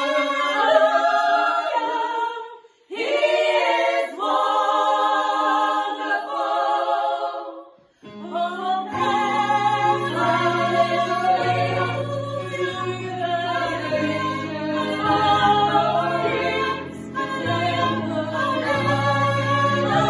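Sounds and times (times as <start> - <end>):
gospel choir singing in harmony: 0.0 - 20.0.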